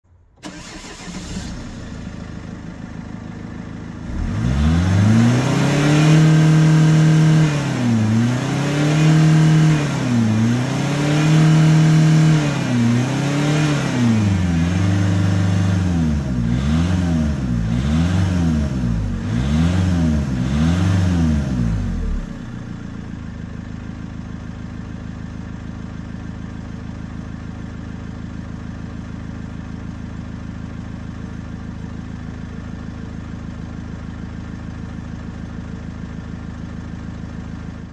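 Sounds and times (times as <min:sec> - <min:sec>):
diesel engine idling and revving: 0:00.1 - 0:37.9.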